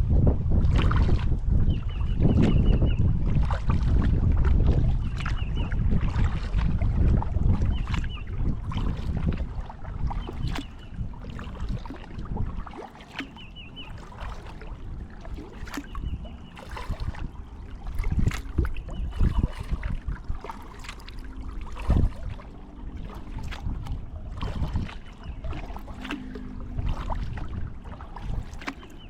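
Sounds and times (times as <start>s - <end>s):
paddle splashing and dripping: 3.2s - 29.0s.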